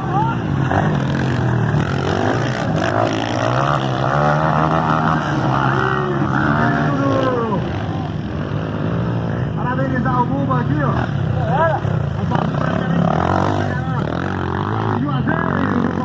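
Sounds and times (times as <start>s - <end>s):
motocross motorcycle engines racing: 0.0s - 16.0s.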